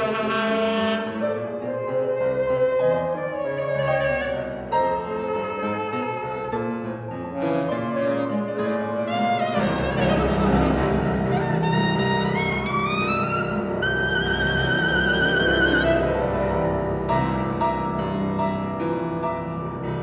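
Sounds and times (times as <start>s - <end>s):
alto saxophone: 0.0s - 17.2s
piano: 0.0s - 20.0s.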